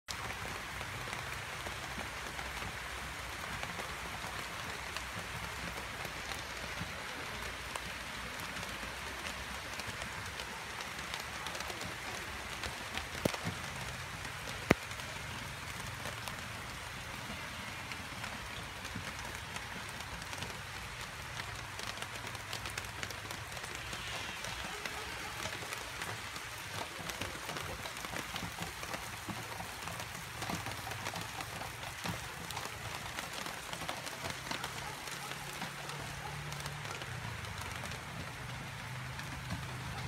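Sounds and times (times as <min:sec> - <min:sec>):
light rain falling: 0:00.1 - 0:40.0.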